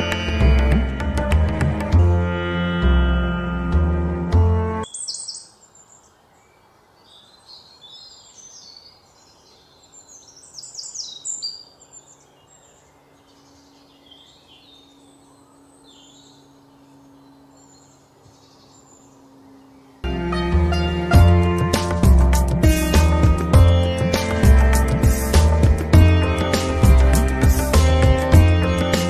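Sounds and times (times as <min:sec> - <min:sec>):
birds chirping: 0:04.8 - 0:29.0.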